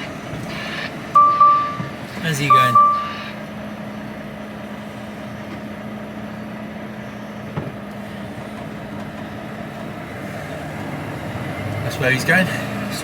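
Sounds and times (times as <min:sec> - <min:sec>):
diesel engine low hum: 0:00.0 - 0:13.0.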